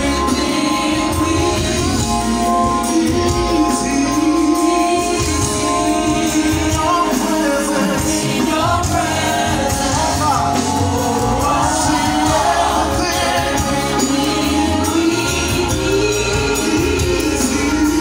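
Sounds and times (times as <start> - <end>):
band playing through pa: 0.0 - 18.0
worship team singing: 0.0 - 18.0.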